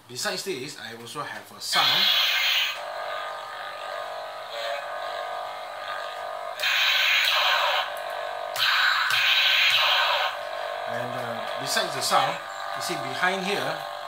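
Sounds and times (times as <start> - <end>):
lightsaber effect sound: 1.7 - 14.0
lightsaber electric hum: 1.7 - 14.0.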